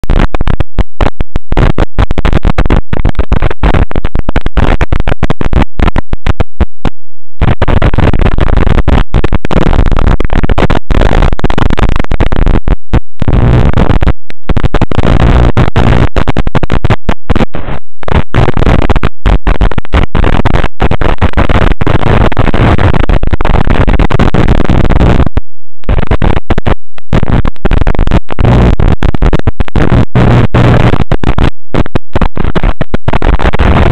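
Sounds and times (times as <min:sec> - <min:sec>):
loud static hiss: 0:00.0 - 0:33.9.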